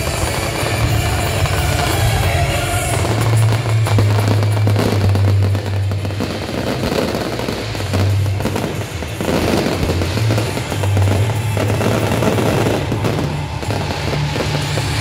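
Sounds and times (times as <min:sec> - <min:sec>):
fireworks bursting and crackling: 0:00.0 - 0:15.0
music playing: 0:00.0 - 0:15.0.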